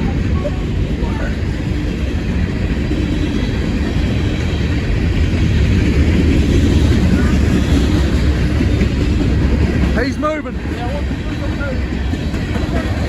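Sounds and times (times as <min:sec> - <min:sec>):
freight train rumbling: 0:00.0 - 0:13.0
train hiss: 0:00.0 - 0:13.0.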